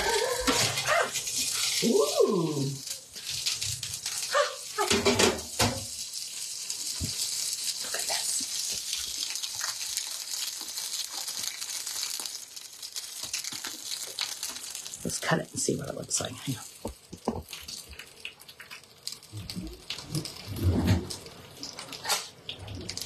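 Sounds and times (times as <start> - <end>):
steak sizzling on metal tray: 0.0 - 23.0.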